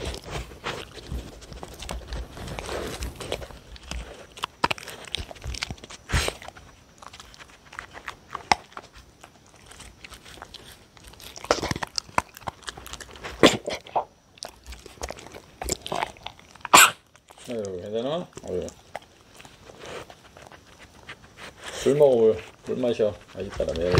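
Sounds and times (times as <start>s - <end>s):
dogs crunching and chewing: 0.0s - 23.9s.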